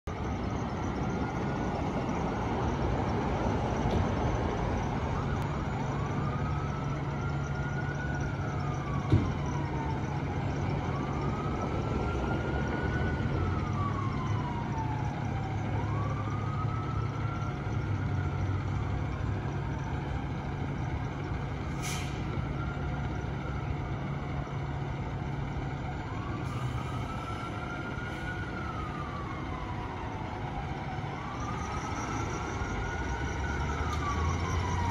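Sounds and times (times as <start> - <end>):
emergency siren wailing: 0.1 - 34.9
fire engine idling: 0.1 - 34.9.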